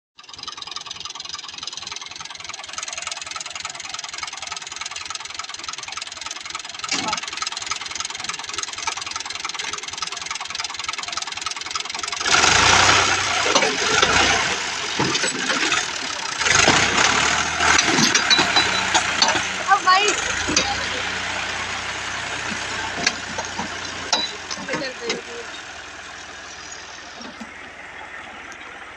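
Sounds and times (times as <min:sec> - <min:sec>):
tractor engine running: 0:00.2 - 0:28.9.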